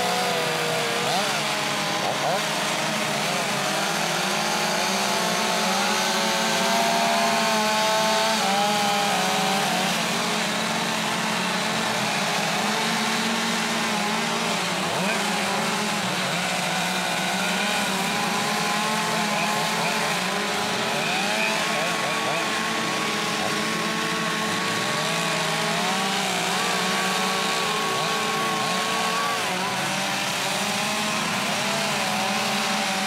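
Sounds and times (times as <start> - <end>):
chainsaws revving and cutting wood: 0.0 - 33.0.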